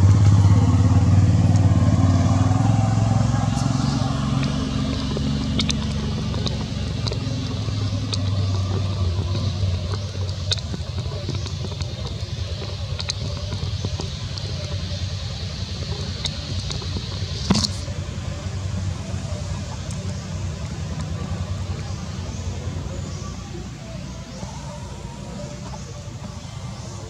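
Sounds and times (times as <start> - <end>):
motor engine humming: 0.0 - 27.0.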